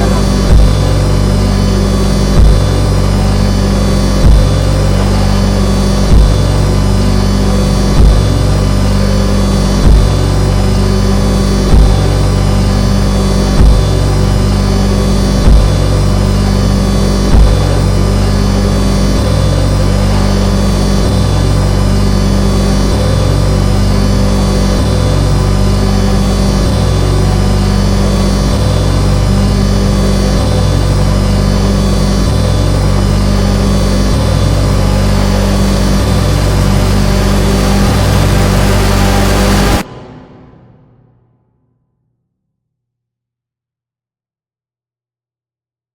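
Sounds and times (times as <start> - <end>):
low pulsing bass pattern: 0.0 - 40.4
wall of distorted noise: 0.0 - 41.6.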